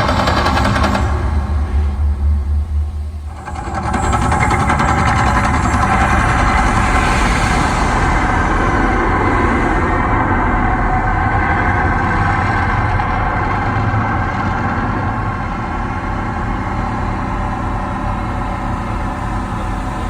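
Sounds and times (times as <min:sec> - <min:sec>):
loud rumbling noise: 0:00.0 - 0:20.0.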